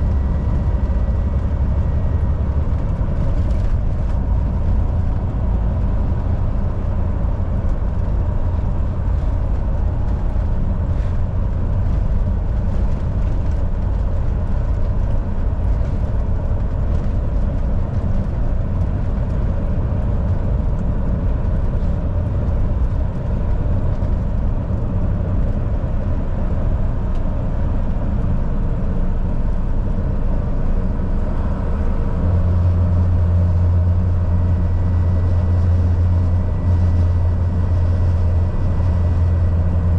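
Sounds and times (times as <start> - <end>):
deep engine note: 0.0 - 39.9
truck diesel engine driving: 0.0 - 39.9.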